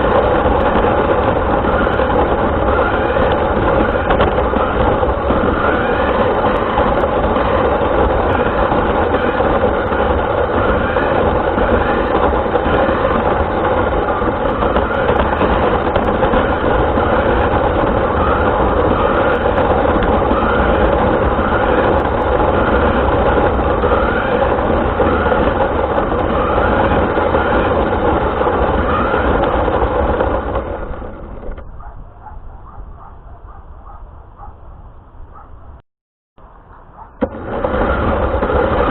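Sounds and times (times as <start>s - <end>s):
short rising whine: 0.0s - 31.8s, 36.4s - 38.9s
rc car motor and wheels rumbling: 0.0s - 34.5s, 36.4s - 38.9s.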